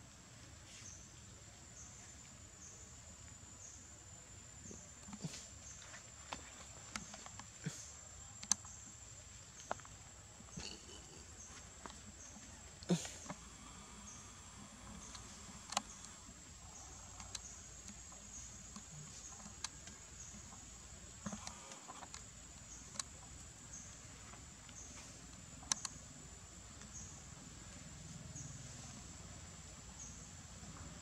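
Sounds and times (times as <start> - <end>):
insects droning: 0.8 - 31.0.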